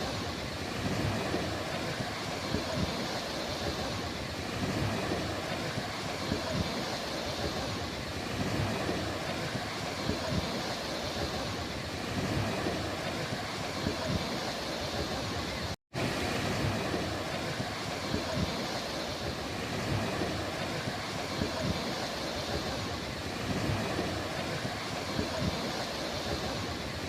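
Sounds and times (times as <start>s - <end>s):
ocean surf on beach: 0.0s - 27.0s
wind buffeting microphone: 0.0s - 27.0s.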